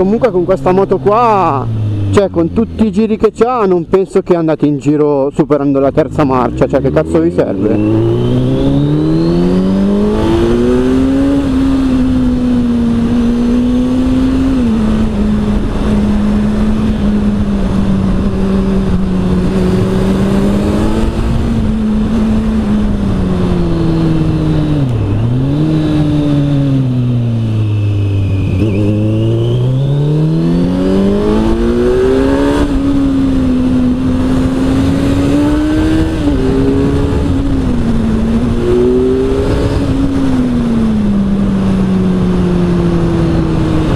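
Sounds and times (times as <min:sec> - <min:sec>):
motorcycle engine revving: 0:00.0 - 0:03.9, 0:05.8 - 0:43.9.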